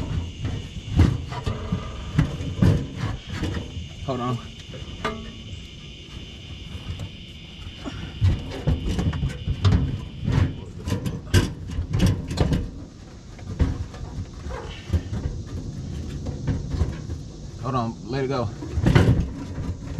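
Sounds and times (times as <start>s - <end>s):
metal knocks and clunks: 0.0s - 5.8s, 8.2s - 17.3s, 18.6s - 19.9s.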